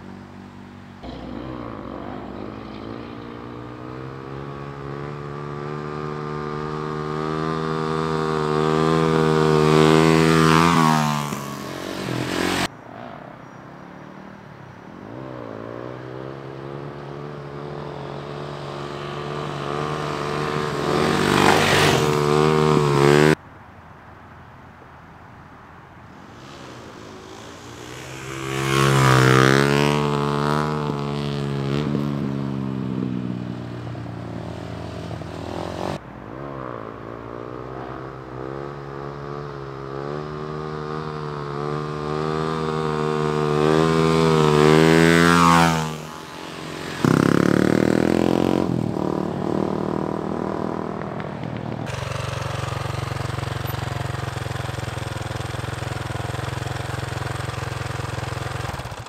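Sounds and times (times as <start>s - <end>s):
dirt bike engines revving: 0.0s - 23.4s, 26.2s - 59.0s.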